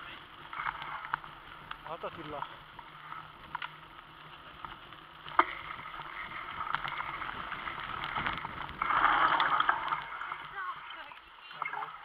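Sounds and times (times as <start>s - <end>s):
bike rattles and clicks: 0.0s - 10.6s
bicycle tyres on dirt: 0.0s - 12.0s.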